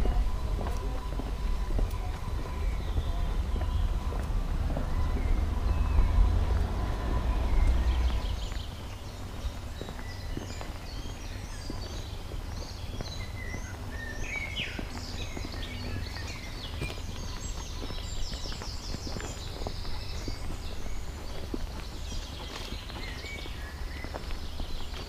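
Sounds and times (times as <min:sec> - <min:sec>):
low rumble: 0:00.0 - 0:23.8
footsteps on gravel: 0:00.0 - 0:25.0
songbirds chirping and trilling: 0:00.0 - 0:25.0.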